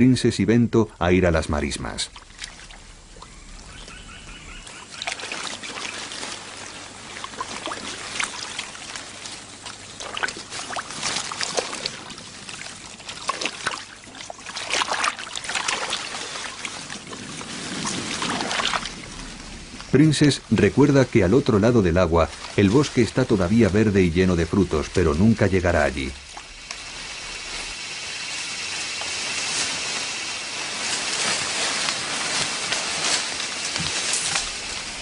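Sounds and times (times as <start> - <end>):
water splashing and trickling: 1.6 - 35.0.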